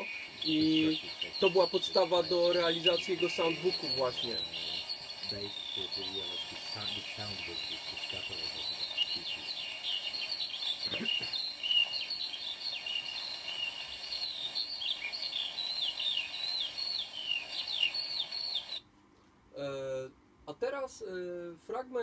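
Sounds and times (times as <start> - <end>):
high chirps of bird song: 0.0 - 18.8
steady hiss: 0.0 - 21.4.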